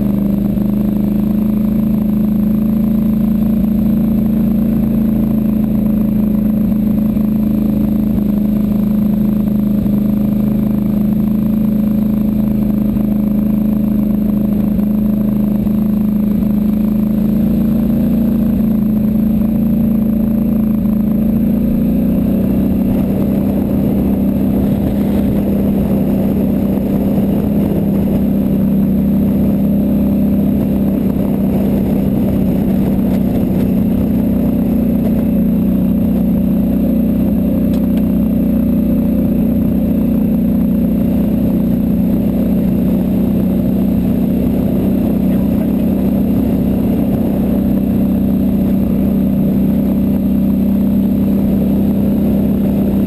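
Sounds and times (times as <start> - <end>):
atv engine droning: 0.0 - 53.0.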